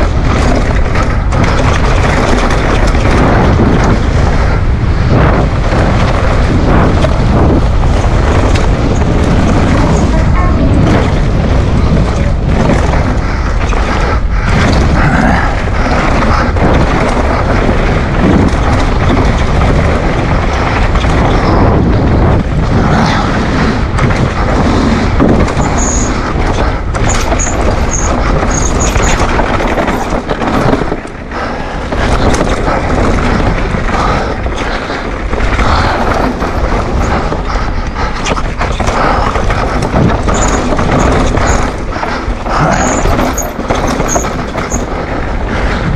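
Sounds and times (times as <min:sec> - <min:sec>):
bike rattling over rough trail: 0:00.0 - 0:45.9
wind buffeting microphone: 0:00.0 - 0:45.9.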